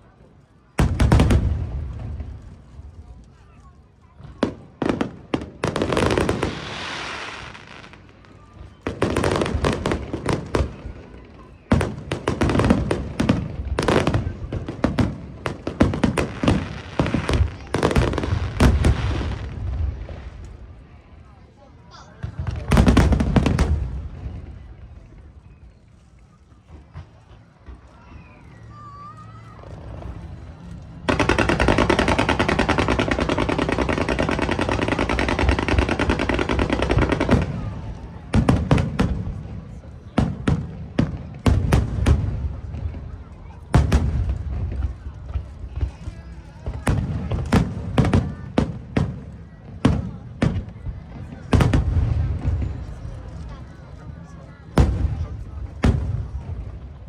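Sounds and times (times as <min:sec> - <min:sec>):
fireworks cracking and booming: 0:00.8 - 0:03.6, 0:04.2 - 0:20.9, 0:22.2 - 0:25.2, 0:29.6 - 0:57.0.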